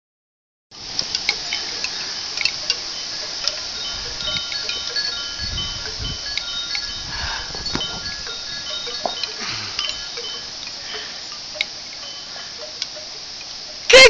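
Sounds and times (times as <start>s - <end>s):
steady hiss: 0.7s - 14.0s
light chime tones: 1.2s - 13.9s.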